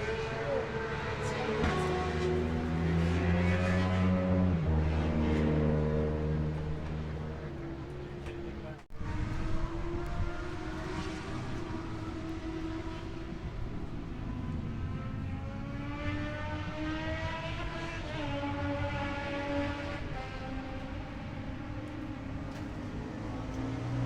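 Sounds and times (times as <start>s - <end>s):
racing motorcycle engine revving: 0.0s - 24.0s.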